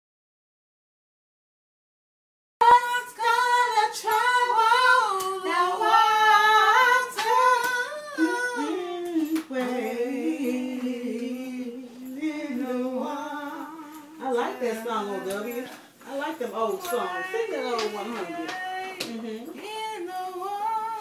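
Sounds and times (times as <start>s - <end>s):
woman singing unaccompanied: 2.6s - 21.0s.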